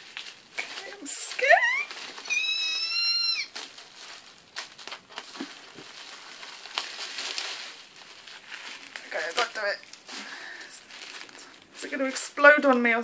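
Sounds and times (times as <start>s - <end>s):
gift wrapping paper rustling: 0.0s - 13.0s.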